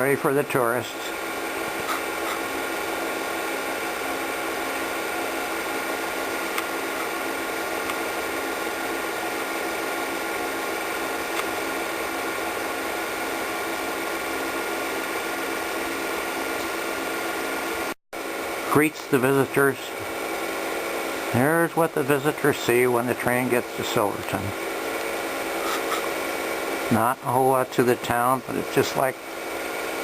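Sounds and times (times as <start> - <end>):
film projector running: 0.0 - 30.0.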